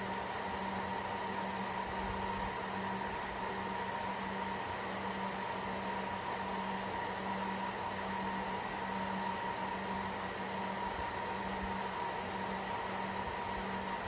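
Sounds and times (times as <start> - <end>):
server cooling fans whirring: 0.0 - 14.0.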